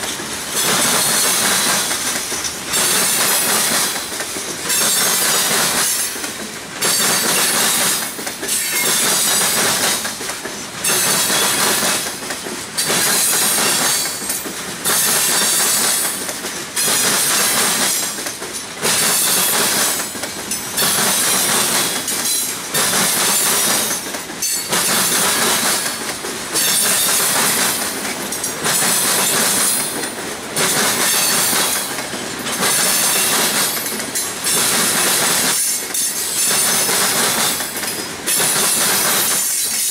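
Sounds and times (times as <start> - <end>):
train rolling noise: 0.0 - 39.9
train wheels banging over crossing: 0.0 - 39.9.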